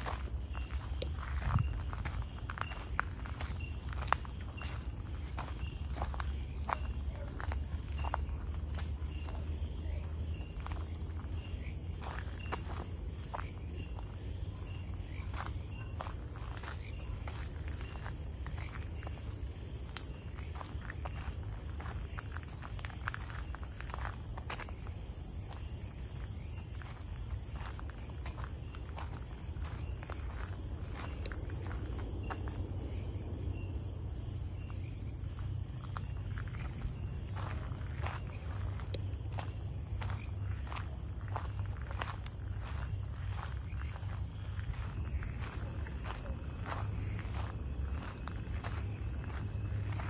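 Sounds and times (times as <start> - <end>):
footsteps on a trail: 0.0 - 50.0
high-pitched insect chorus: 0.0 - 50.0.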